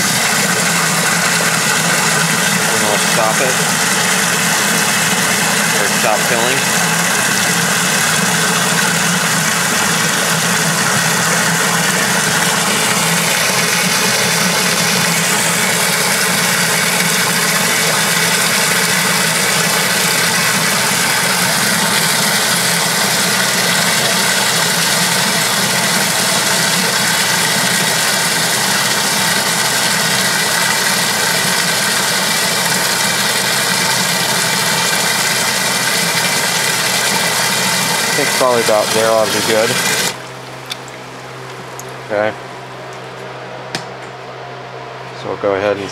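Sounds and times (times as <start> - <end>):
water pouring into washer tub: 0.0 - 41.8.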